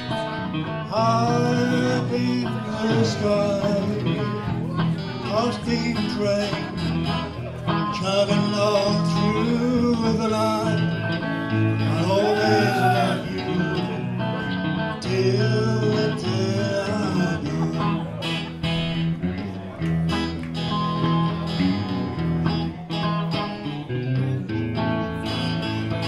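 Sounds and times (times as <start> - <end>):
country guitar instrumental: 0.0 - 26.0.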